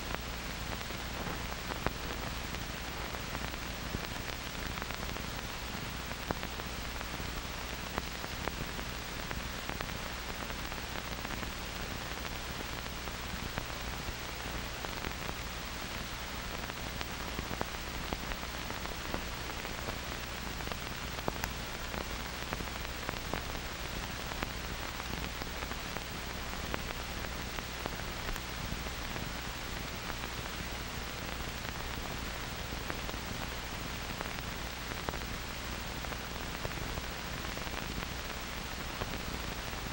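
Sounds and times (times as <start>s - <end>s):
faint clicks and crackles: 0.0s - 39.9s
film soundtrack hiss: 0.0s - 39.9s.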